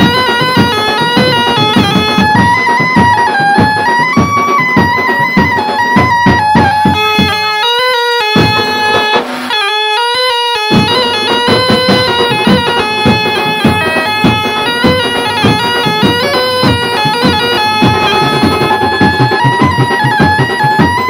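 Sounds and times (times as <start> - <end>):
steady drum beat: 0.0 - 9.7, 10.3 - 21.0
sustained melody: 0.0 - 21.0.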